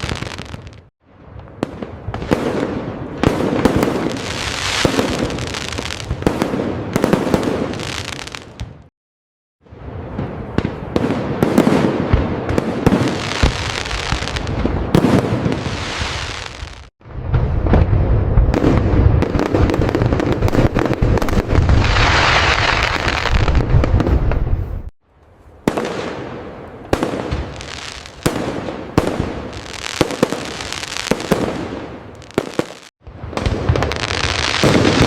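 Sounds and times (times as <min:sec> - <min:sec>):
fireworks bangs and crackling: 0:00.0 - 0:08.9, 0:09.7 - 0:24.9, 0:25.5 - 0:35.0.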